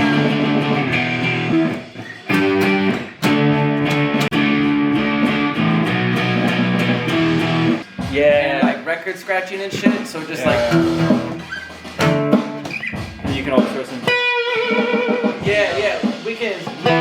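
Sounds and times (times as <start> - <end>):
electric guitar strumming chords: 0.0 - 8.1, 10.4 - 16.0, 16.6 - 17.0.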